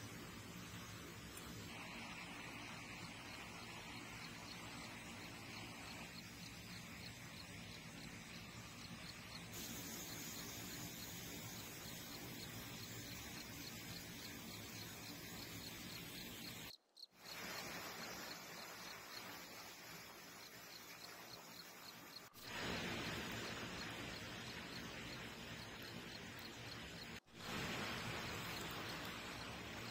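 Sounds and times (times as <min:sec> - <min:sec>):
insect chirping: 0:00.0 - 0:29.9
steady hiss: 0:00.0 - 0:29.9.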